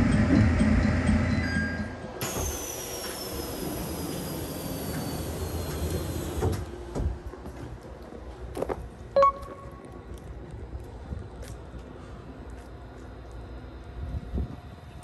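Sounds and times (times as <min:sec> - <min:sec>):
diesel railcar rumbling: 0:00.0 - 0:15.0.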